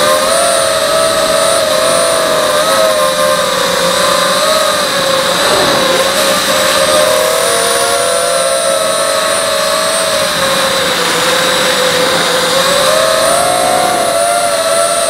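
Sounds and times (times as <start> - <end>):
drone motors whining: 0.0 - 15.0
steady rushing hiss: 0.1 - 15.0.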